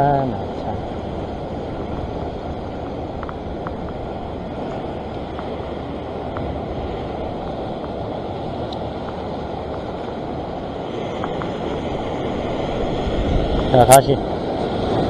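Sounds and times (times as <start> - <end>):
ocean surf breaking on rocks: 0.0 - 15.0
wind on microphone: 0.0 - 15.0.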